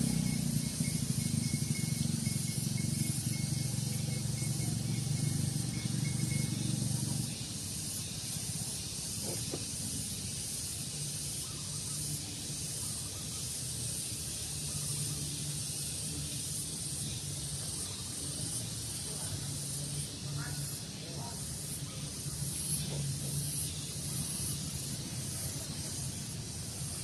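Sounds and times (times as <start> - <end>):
high-pitched hiss: 0.0 - 27.0.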